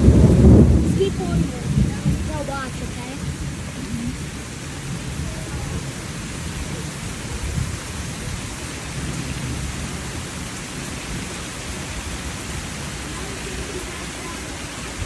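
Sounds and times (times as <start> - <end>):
low rumble of thunder: 0.0 - 12.7
steady rain pouring: 0.0 - 15.0.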